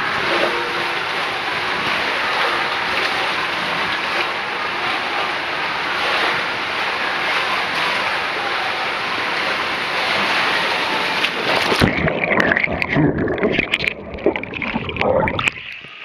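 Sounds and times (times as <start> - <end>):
splashing into pool: 0.0 - 16.0
underwater bubbling and gurgling: 0.0 - 16.0
water rushing through waterslide: 0.0 - 16.0.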